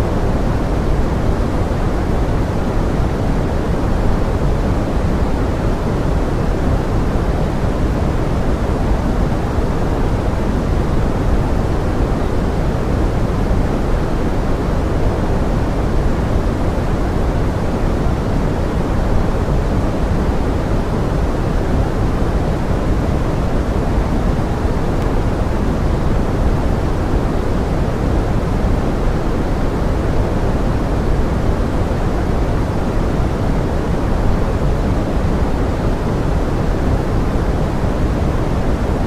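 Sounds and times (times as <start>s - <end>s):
pink noise: 0.0s - 39.0s.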